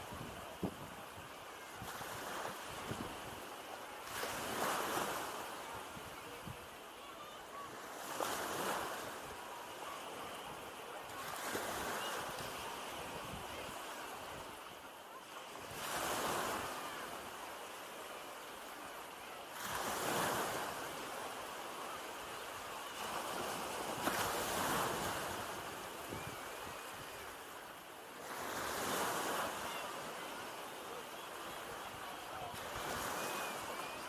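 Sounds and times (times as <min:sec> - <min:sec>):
small waves breaking on sand: 0:00.0 - 0:34.0.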